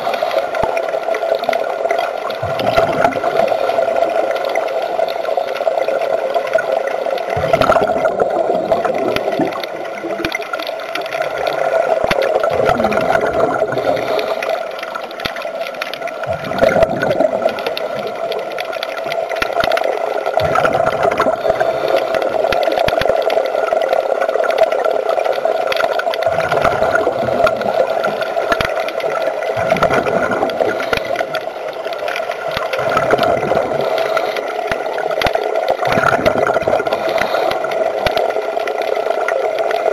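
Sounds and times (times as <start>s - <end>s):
steady underwater hum: 0.0s - 39.9s
water gurgling and bubbling: 0.0s - 39.9s.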